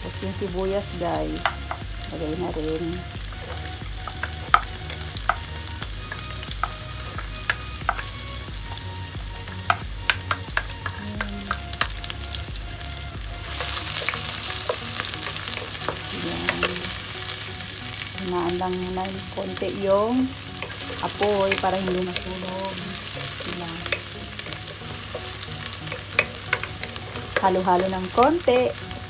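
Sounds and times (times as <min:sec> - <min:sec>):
onion sizzling in hot oil: 0:00.0 - 0:29.0
oil popping: 0:00.8 - 0:29.0.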